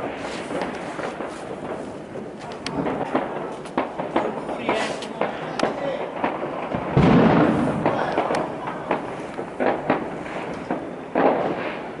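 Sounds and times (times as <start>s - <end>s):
firecrackers cracking and banging: 0.0s - 12.0s
heavy firework boom: 0.0s - 12.0s.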